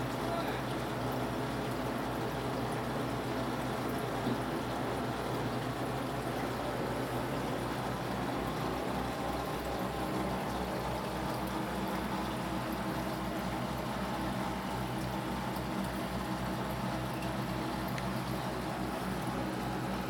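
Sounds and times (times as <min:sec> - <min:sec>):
aquarium water noise: 0:00.0 - 0:20.0.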